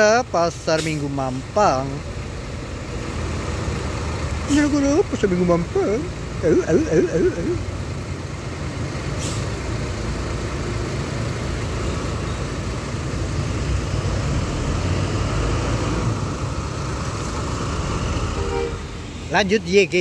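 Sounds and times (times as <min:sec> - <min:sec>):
diesel bus engine rumbling: 0:00.0 - 0:20.0.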